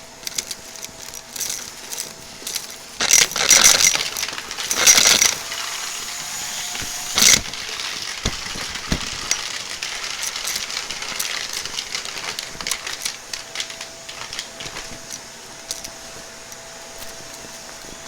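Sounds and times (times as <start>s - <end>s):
vacuum cleaner running: 0.0s - 18.0s
debris clicking and crackling: 0.2s - 18.0s.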